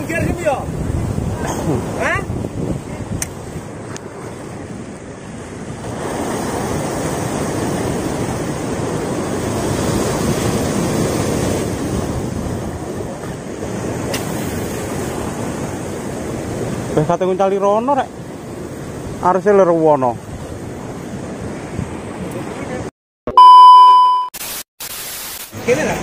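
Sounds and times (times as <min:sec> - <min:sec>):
sea surf breaking over rocks: 0:00.0 - 0:22.9.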